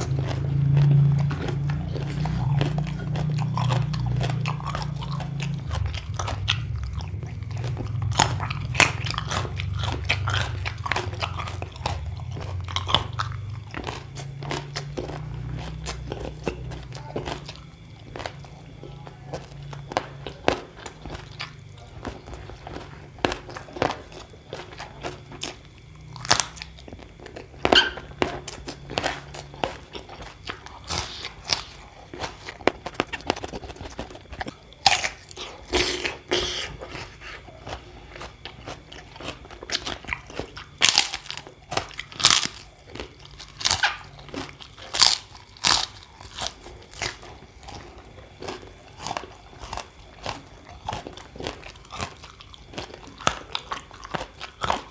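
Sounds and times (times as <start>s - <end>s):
crunching and chewing crisp food: 0.0s - 54.9s.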